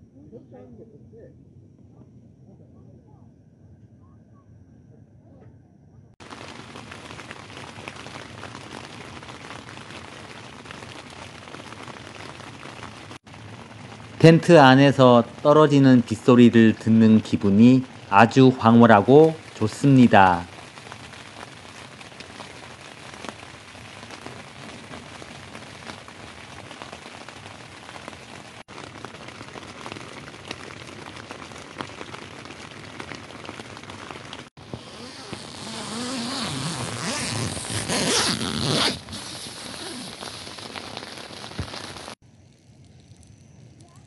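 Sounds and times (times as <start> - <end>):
rain on tent fabric: 6.2 - 44.0.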